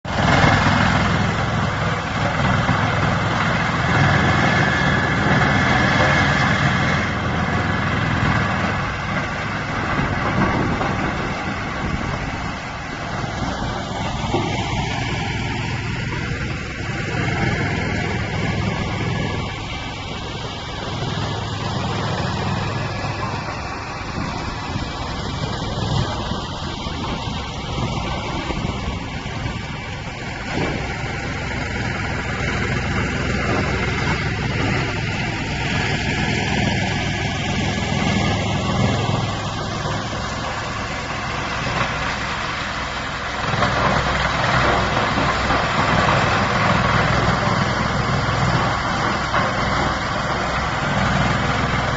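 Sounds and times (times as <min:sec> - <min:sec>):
wood chipper running: 0:00.0 - 0:51.9.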